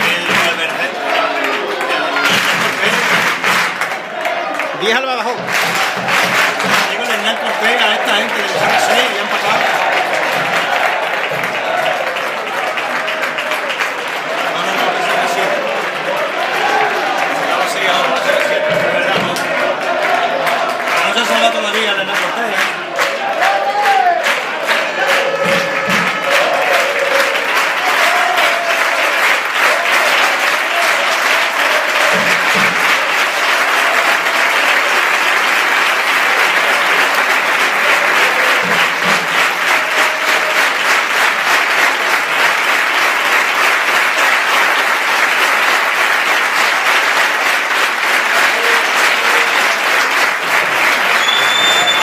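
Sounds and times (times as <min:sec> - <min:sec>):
crowd applauding: 0:00.0 - 0:52.0.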